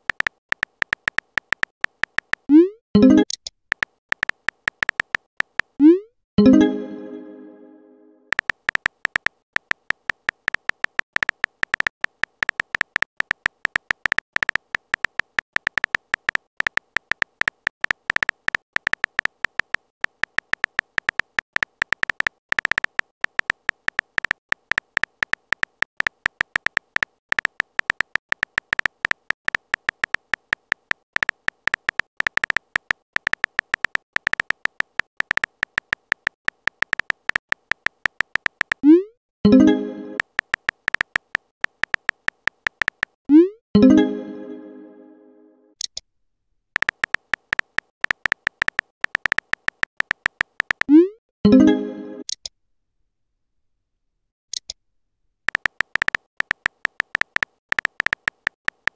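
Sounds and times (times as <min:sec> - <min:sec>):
electronic keyboard typing ticks: 0:00.0 - 0:07.4, 0:08.3 - 0:44.0, 0:46.8 - 0:52.4, 0:55.5 - 0:58.9.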